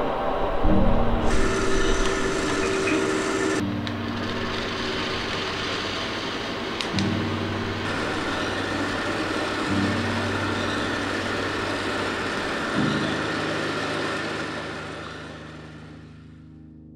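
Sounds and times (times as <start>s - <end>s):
low droning tone: 0.0s - 16.5s
cooling tray fan and stirring arms: 1.2s - 16.0s.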